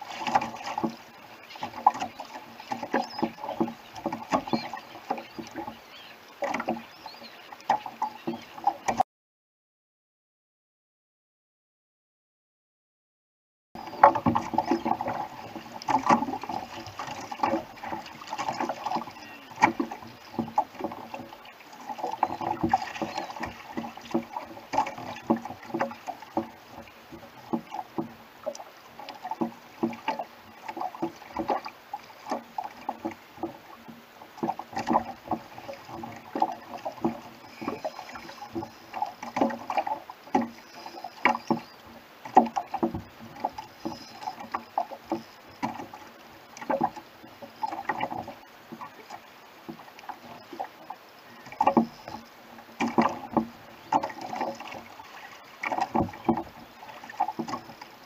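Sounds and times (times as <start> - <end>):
small waves slapping against hull: 0.0 - 9.0, 13.8 - 58.0.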